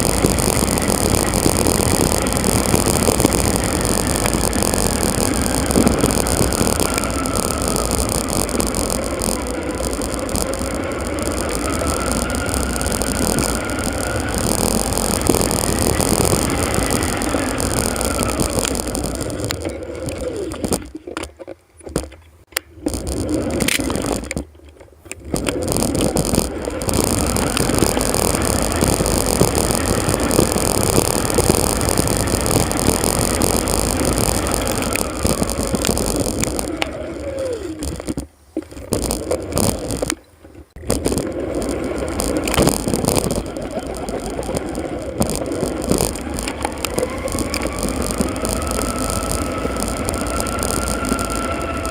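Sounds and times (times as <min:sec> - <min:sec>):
road noise with rattle: 0:00.0 - 0:51.9.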